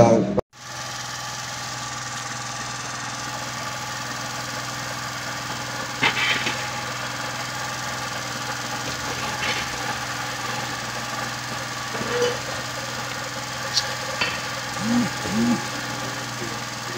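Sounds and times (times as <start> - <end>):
engine running: 0.6 - 16.9.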